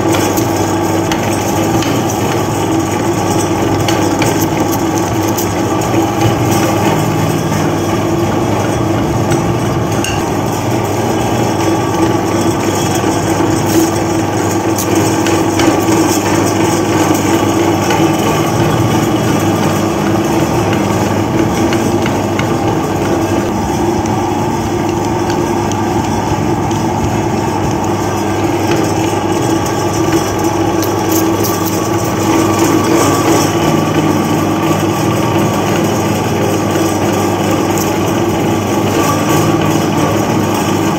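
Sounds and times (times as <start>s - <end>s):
electric meat grinder running: 0.0s - 40.9s.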